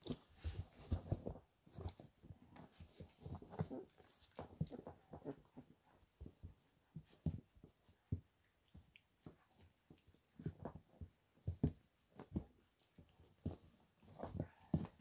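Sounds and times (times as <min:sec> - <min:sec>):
puppies crawling on bedding: 0:00.0 - 0:15.0.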